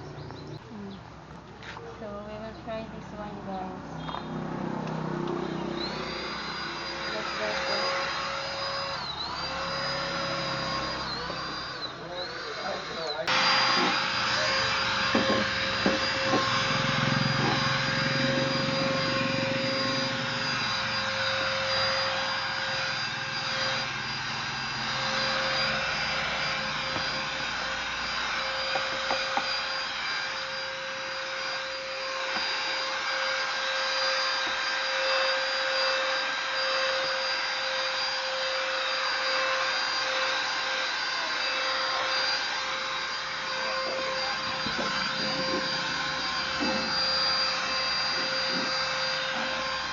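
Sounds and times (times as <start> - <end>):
handheld vacuum cleaner running: 1.6 - 49.9.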